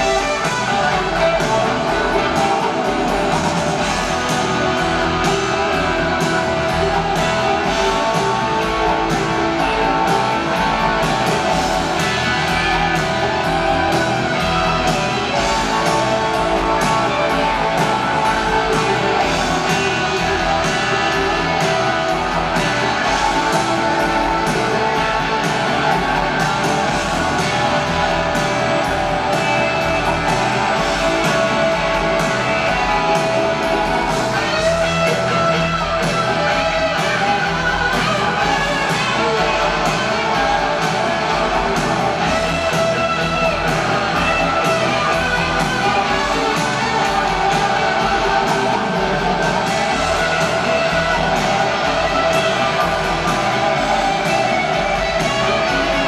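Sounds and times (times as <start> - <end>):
live rock band playing loud: 0.0 - 56.0.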